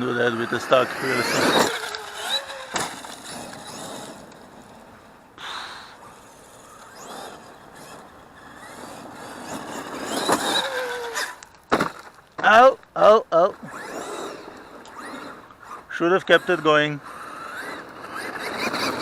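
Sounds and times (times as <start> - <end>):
toy truck electric motor whining: 0.0 - 12.2, 13.5 - 19.0.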